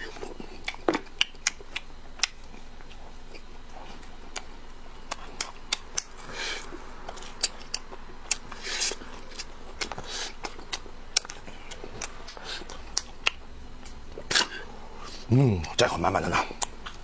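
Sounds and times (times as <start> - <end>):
chewing and lip-smacking: 0.0 - 17.0.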